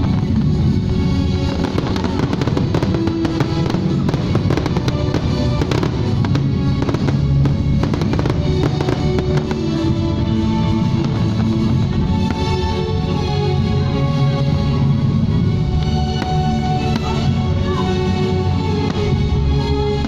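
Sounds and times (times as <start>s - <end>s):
fireworks bangs and crackles: 0.0s - 20.0s
loud music: 0.0s - 20.0s.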